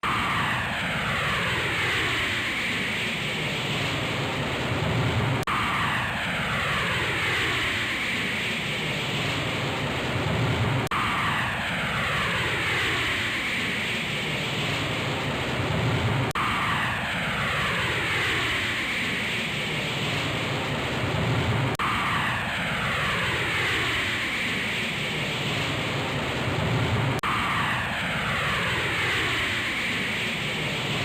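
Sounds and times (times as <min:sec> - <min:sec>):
airplane engine passing by: 0:00.0 - 0:31.0.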